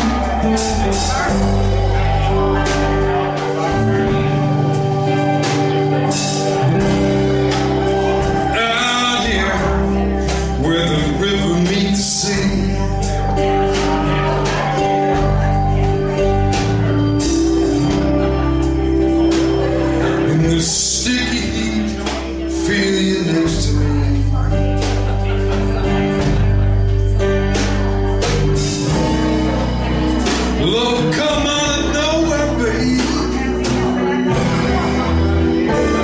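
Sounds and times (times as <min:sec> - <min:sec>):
man singing: 0:00.0 - 0:26.4, 0:30.1 - 0:36.0
live band playing: 0:00.0 - 0:36.0.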